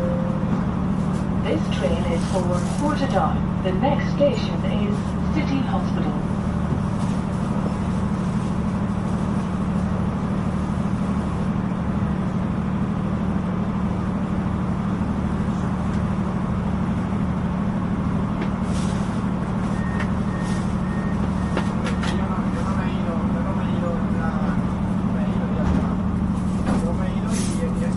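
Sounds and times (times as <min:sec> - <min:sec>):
train engine and wheels rumbling: 0:00.0 - 0:27.9.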